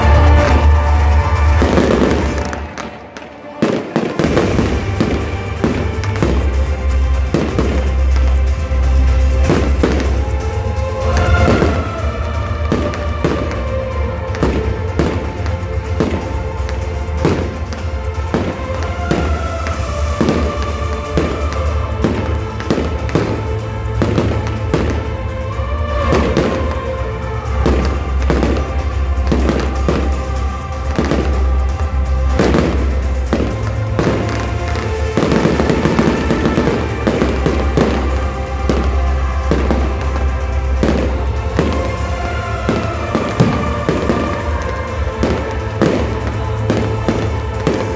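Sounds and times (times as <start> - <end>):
fireworks bursting: 0.0 - 47.9
music playing: 0.0 - 47.9.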